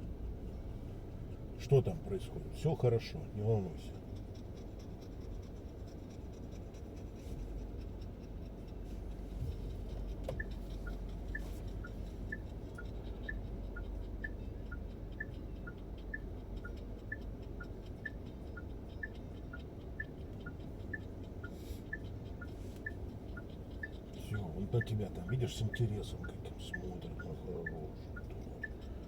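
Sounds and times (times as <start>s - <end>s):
car cabin rumble: 0.0s - 5.9s, 7.0s - 29.0s
turn signal ticking: 0.0s - 6.1s, 6.7s - 29.0s.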